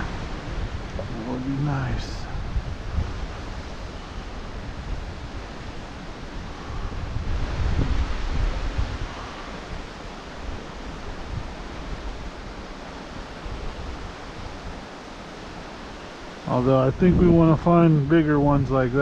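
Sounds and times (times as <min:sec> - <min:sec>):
water rushing from waterfall: 0:00.0 - 0:19.0
wind buffeting microphone: 0:00.0 - 0:19.0.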